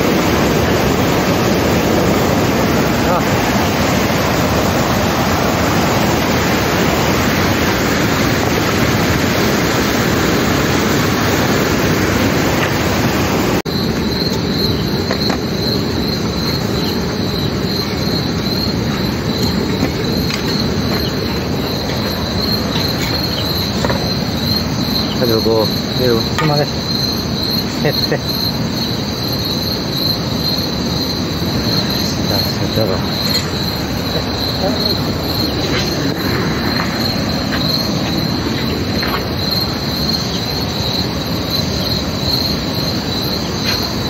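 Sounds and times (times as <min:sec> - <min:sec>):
water rushing and splashing: 0:00.0 - 0:26.8, 0:30.8 - 0:44.0
insects trilling: 0:00.0 - 0:44.0.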